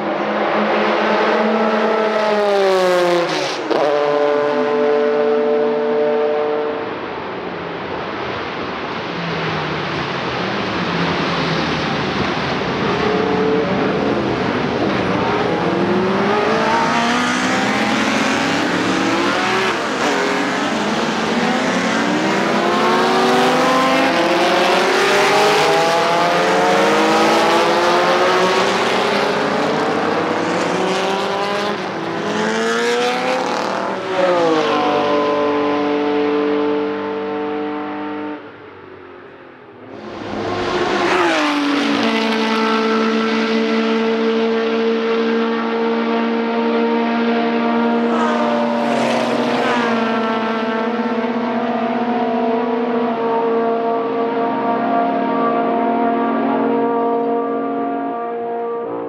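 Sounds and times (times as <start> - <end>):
racing car engines accelerating: 0.0 - 59.0.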